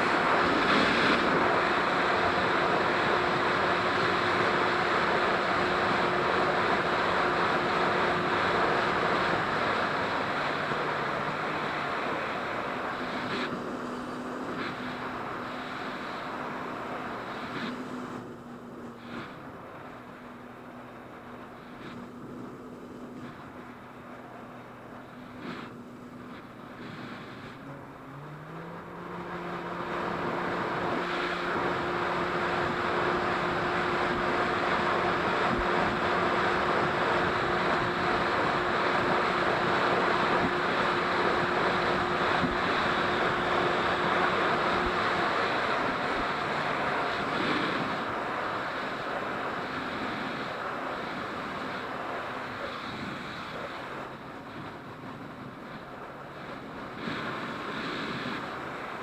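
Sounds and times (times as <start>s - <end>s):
jet ski engine hum: 0.0s - 59.0s
rush of water and wind: 0.0s - 59.0s.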